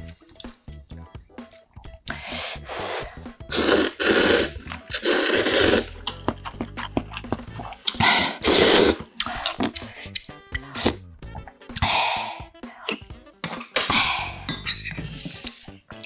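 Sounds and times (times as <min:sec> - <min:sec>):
chewing and mouth sounds: 0:00.0 - 0:16.0
soft background music: 0:00.0 - 0:16.0
person slurping noodles: 0:02.1 - 0:16.0.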